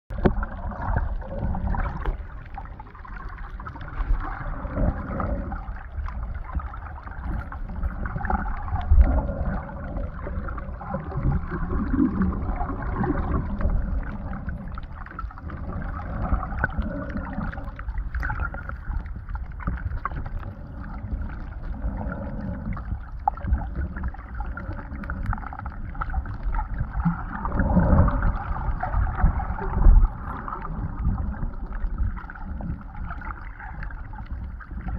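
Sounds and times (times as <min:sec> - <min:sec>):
underwater rumbling and sloshing: 0:00.0 - 0:34.9.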